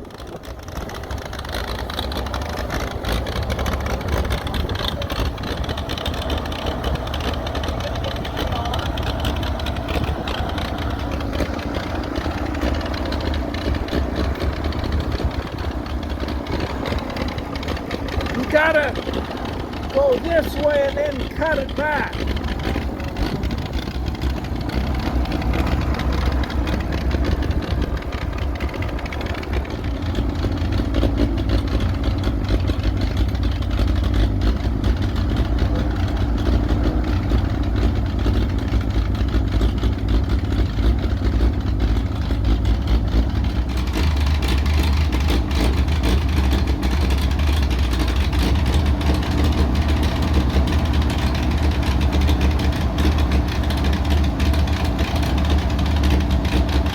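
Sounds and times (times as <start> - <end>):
tractor engine running rough: 0.0 - 56.9.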